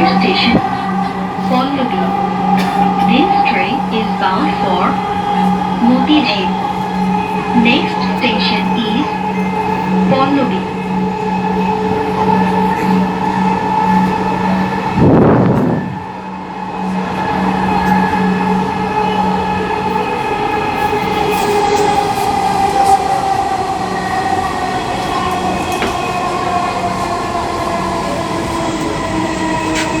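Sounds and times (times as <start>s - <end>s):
electric train whine: 0.0s - 30.0s
train rolling noise: 0.0s - 30.0s.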